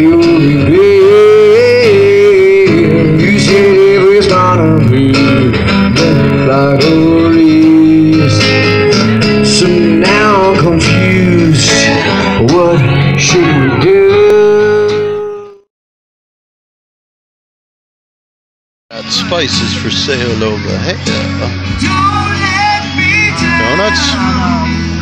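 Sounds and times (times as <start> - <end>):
strummed guitars: 0.0 - 15.6, 18.9 - 25.0
man singing: 0.0 - 15.7, 19.0 - 25.0.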